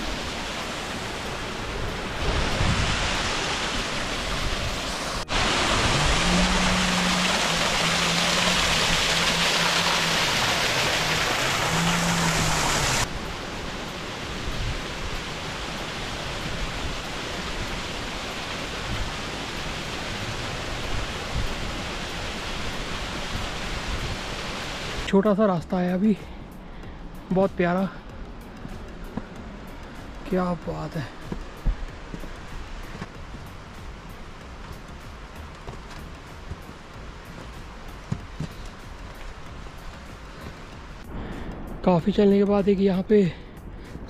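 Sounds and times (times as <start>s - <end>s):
mountain stream rushing: 0.0s - 25.2s, 27.2s - 41.2s.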